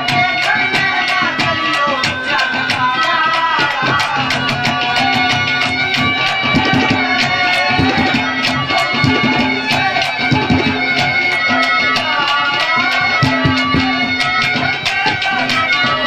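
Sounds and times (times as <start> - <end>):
bending folk melody: 0.0 - 16.0
hand drums beating: 0.0 - 16.0.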